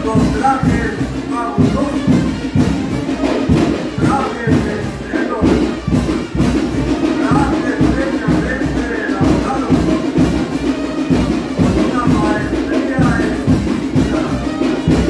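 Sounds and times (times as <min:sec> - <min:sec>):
brass band playing dance music: 0:00.0 - 0:15.0.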